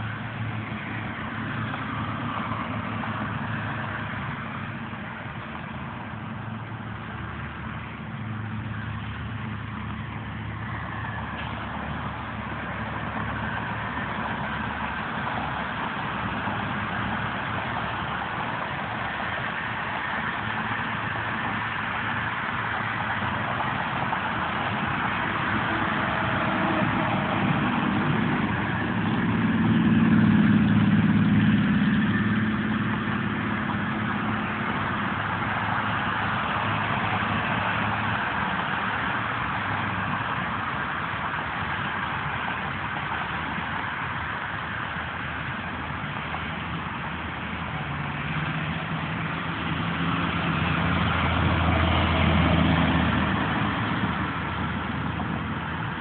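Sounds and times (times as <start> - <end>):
road traffic passing: 0.0 - 56.0
truck engine passing close: 0.0 - 56.0.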